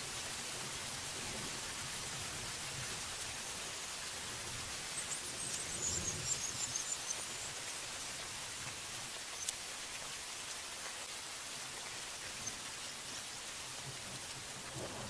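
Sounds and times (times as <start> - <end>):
rain on foliage: 0.0 - 15.0.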